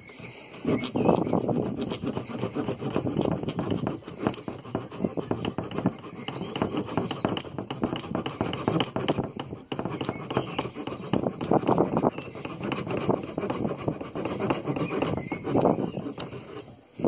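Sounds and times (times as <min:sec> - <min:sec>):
saw cutting wooden branch: 0:00.0 - 0:17.0.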